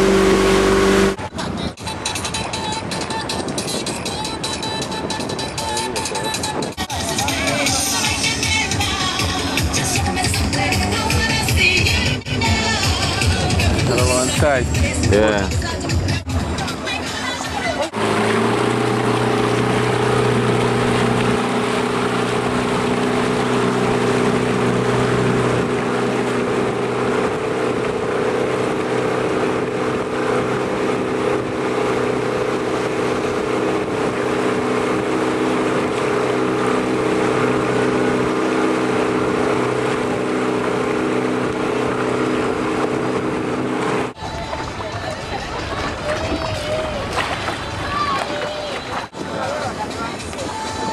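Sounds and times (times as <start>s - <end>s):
motorboat engine humming: 0.0s - 50.9s
rushing water: 0.0s - 50.9s
wind: 0.0s - 50.9s.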